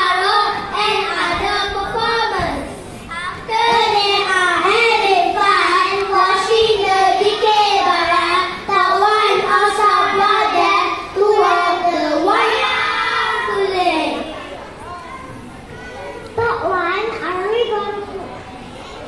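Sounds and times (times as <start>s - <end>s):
young children singing: 0.0s - 16.4s.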